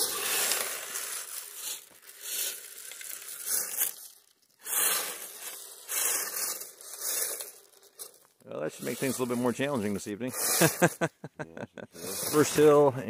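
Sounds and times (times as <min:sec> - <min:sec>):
icy snow crunching: 0:00.0 - 0:11.1, 0:12.0 - 0:13.0.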